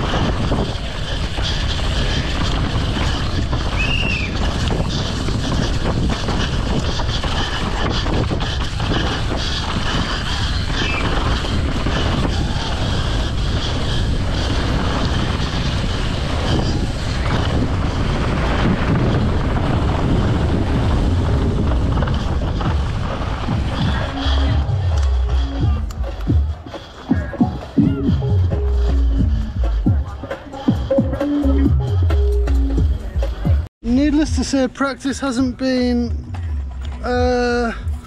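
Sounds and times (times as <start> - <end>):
wind buffeting microphone: 0.0 - 31.0
bike tyres rumbling and rattling: 0.0 - 38.0.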